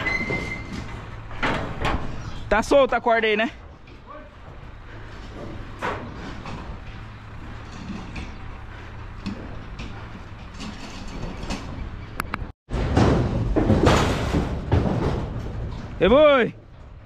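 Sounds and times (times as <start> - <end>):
metal knocks and clanks: 0.0 - 17.0.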